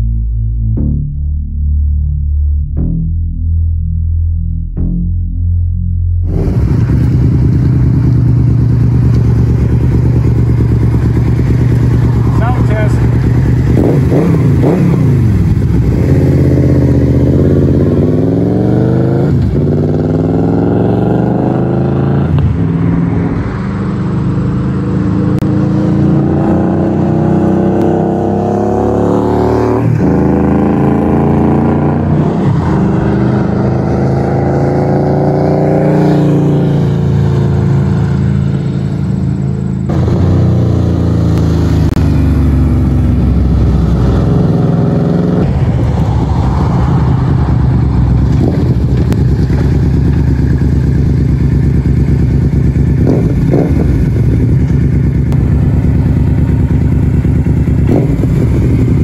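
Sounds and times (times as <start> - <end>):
motorcycle engine revving: 6.2 - 59.0.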